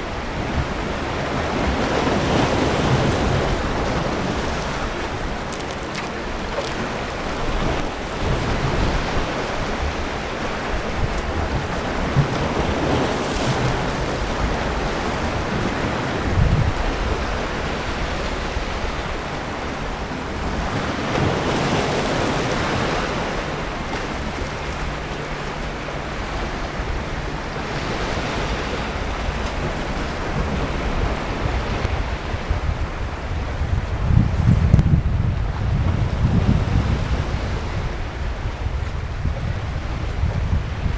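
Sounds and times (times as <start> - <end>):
sea waves surf: 0.0 - 40.9
wind buffeting microphone: 0.0 - 40.9.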